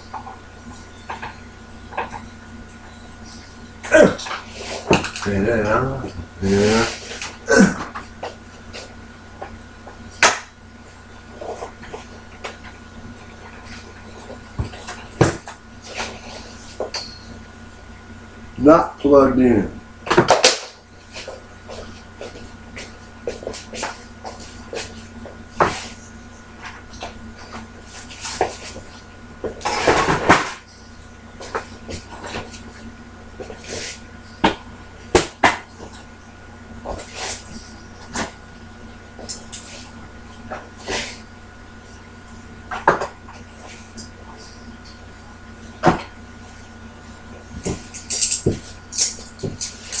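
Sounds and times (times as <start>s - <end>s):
steady electrical hum: 0.0s - 50.0s.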